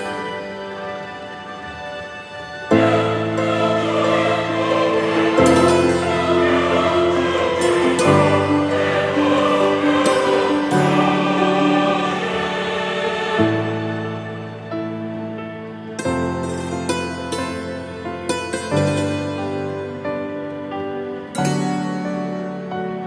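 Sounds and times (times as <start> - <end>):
background music with held chords: 0.0 - 23.0.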